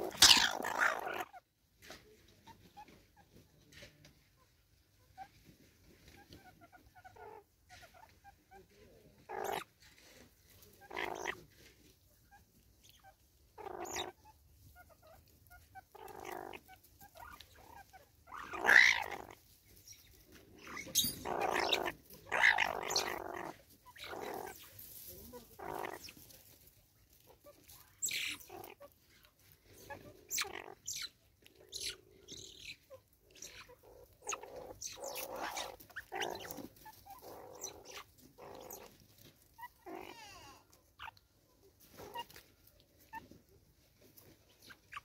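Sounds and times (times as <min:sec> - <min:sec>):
mongooses grunting and squeaking: 0:00.0 - 0:45.0.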